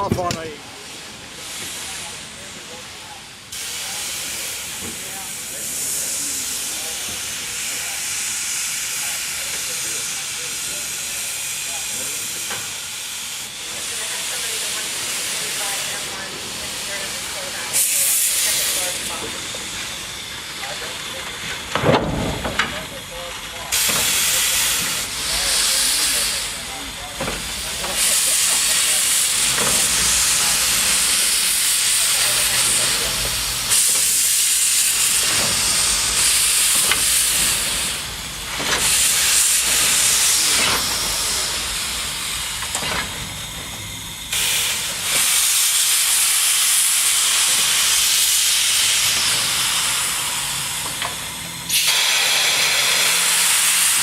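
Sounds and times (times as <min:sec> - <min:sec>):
steam locomotive venting steam: 0:00.0 - 0:54.0.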